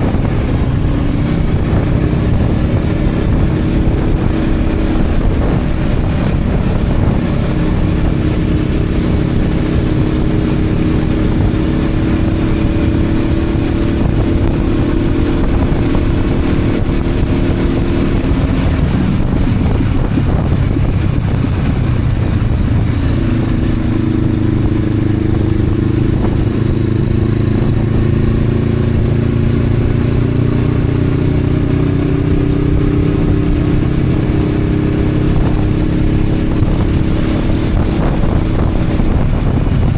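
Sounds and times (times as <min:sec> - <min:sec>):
motorcycle engine running: 0:00.0 - 0:39.9
road rumble: 0:00.0 - 0:39.9
wind: 0:00.0 - 0:39.9.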